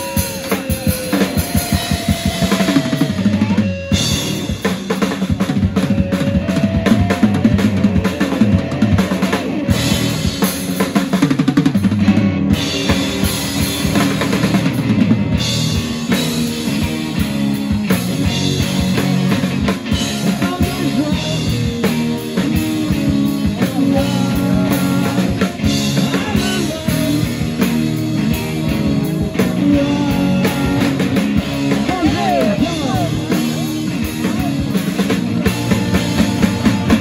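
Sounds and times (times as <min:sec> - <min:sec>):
drum kit: 0:00.0 - 0:37.0
electric guitars through amplifiers: 0:00.0 - 0:37.0.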